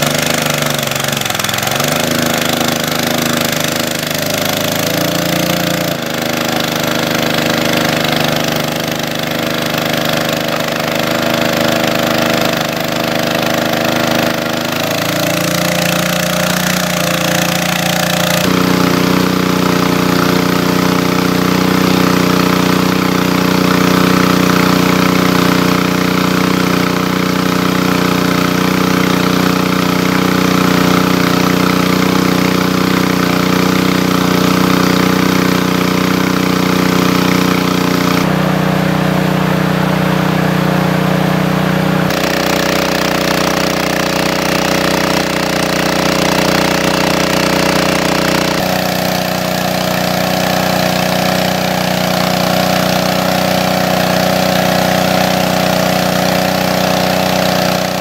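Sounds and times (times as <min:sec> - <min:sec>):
hose gushing water: 0:00.0 - 0:58.0
water pump engine running: 0:00.0 - 0:58.0.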